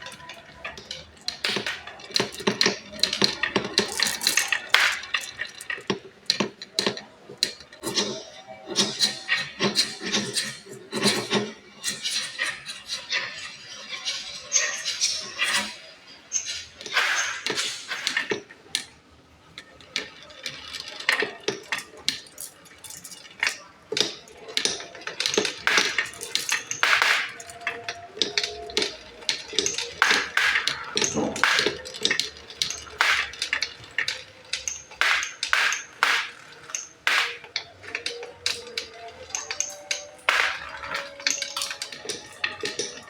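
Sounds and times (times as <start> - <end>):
glass marbles clattering down track: 0.0 - 19.0, 19.6 - 43.0.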